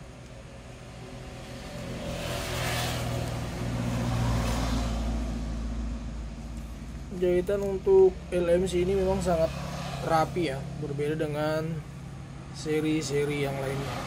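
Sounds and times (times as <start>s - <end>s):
vehicle passing by: 0.6s - 14.0s.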